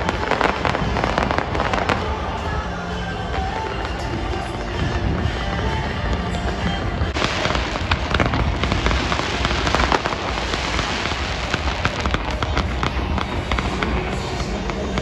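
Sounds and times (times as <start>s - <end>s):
fireworks crackling pops: 0.0s - 15.0s.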